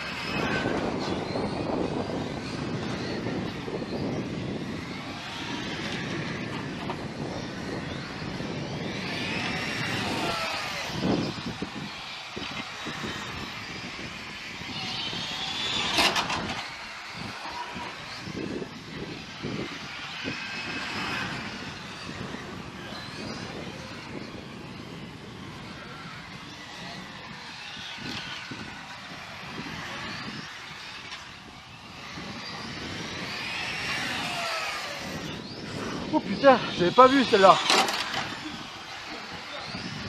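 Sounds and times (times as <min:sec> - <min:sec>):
radio-controlled car motors whining: 0:00.0 - 0:40.0
rumble of tyres: 0:00.0 - 0:40.0.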